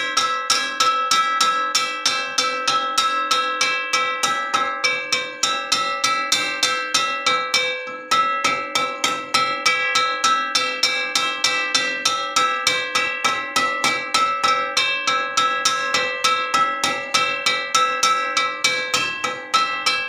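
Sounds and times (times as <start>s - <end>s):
metal wok struck ringing: 0.0s - 20.0s.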